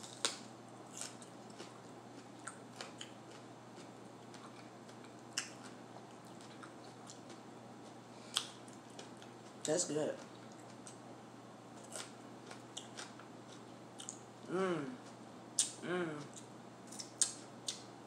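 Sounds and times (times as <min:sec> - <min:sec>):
chewing pepper: 0:00.0 - 0:11.0, 0:11.8 - 0:17.9.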